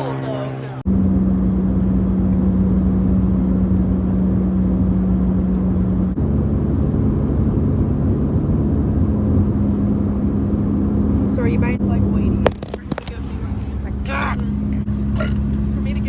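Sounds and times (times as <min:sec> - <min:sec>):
car engine drone: 0:00.0 - 0:16.0
road rumble: 0:00.0 - 0:16.0.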